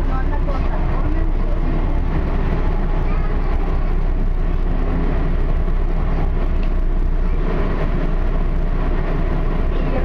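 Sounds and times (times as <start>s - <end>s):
light-rail train rumbling: 0.0s - 10.0s.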